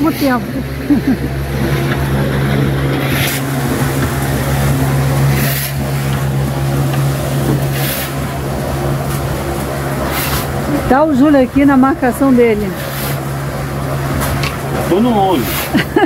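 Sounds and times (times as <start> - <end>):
machine humming: 0.0 - 16.0.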